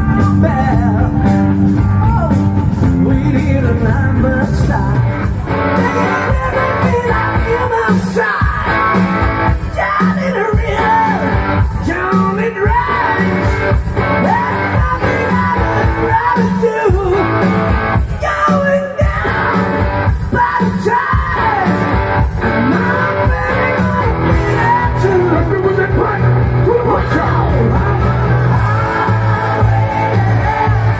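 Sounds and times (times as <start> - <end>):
rock music with singing: 0.0 - 30.9.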